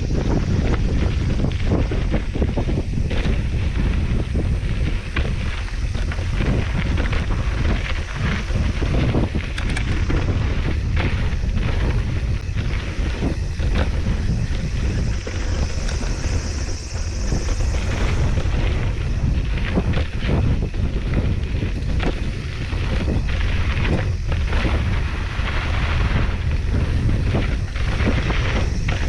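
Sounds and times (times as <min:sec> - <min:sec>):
bike knocks and rattles: 0:00.0 - 0:29.0
steady low rumble: 0:00.0 - 0:29.0
wind buffeting microphone: 0:00.0 - 0:29.0.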